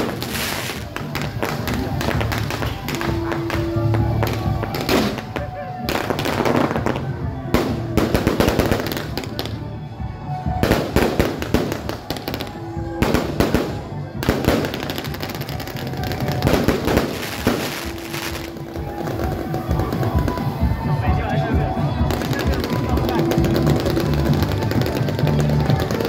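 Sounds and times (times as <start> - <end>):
fireworks bursting: 0.0 - 9.7, 10.3 - 26.0
music: 0.0 - 26.0.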